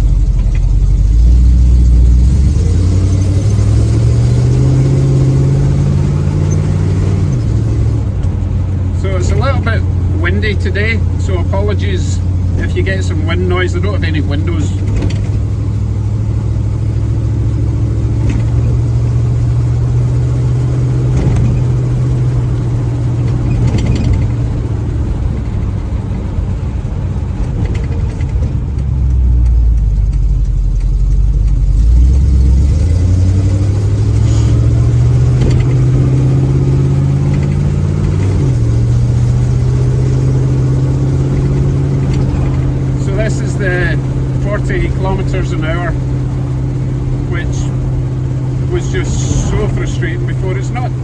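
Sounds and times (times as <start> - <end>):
car engine droning while driving: 0.0 - 51.0.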